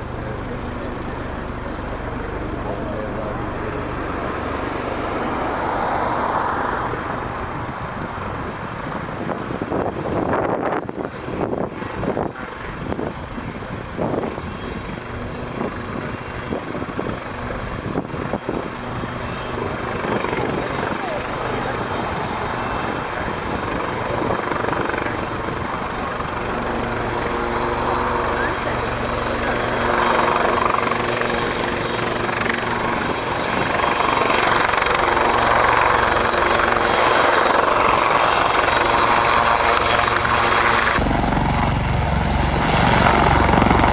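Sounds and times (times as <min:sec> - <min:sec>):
helicopter turbines and rotor: 0:00.0 - 0:43.9
wind buffeting microphone: 0:00.0 - 0:43.9.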